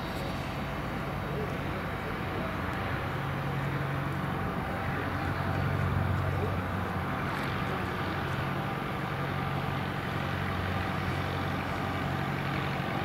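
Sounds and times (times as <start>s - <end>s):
light aircraft engine running: 0.0s - 13.0s.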